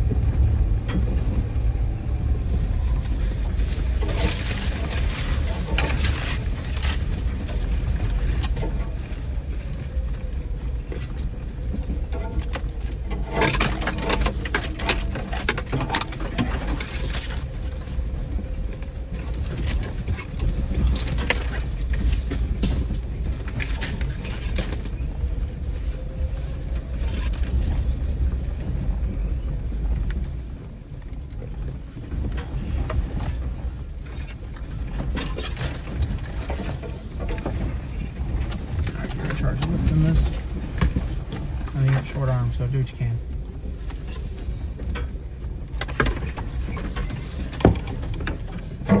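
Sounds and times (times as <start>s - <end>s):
knocks rattles and scrapes: 0.0s - 49.0s
off-road vehicle engine: 0.0s - 49.0s.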